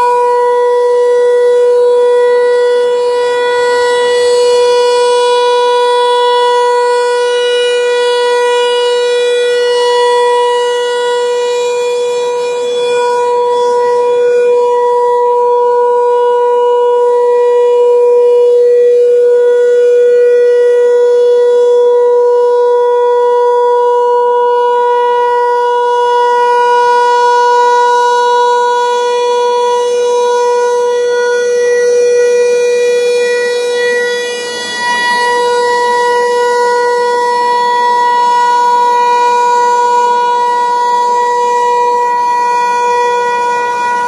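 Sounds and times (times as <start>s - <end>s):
outdoor warning siren: 0.0s - 44.0s.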